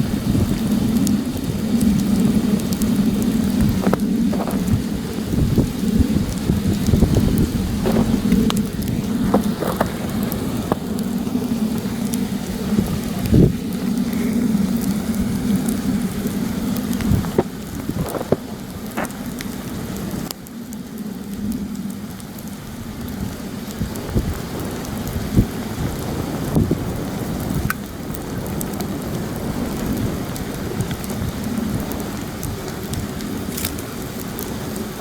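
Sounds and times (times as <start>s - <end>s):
campfire crackling: 0.0s - 35.0s
wind blowing across microphone: 0.0s - 35.0s.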